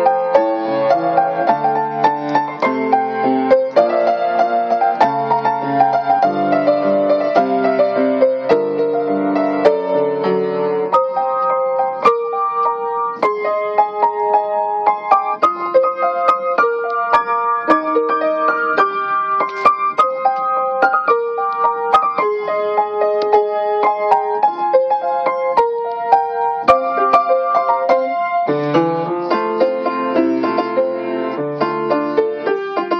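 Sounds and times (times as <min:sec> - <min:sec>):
solo piano: 0:00.0 - 0:32.9.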